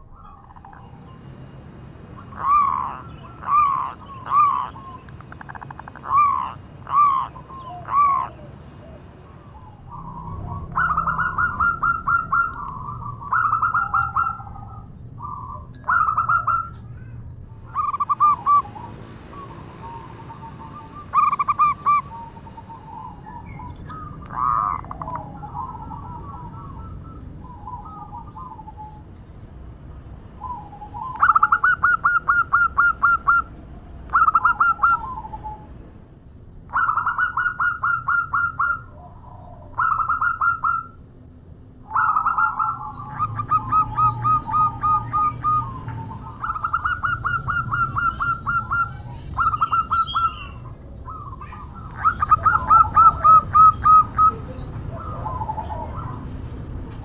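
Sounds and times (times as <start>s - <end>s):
dove cooing: 2.3s - 17.1s, 17.7s - 29.0s, 30.4s - 35.8s, 36.7s - 41.0s, 41.8s - 57.0s.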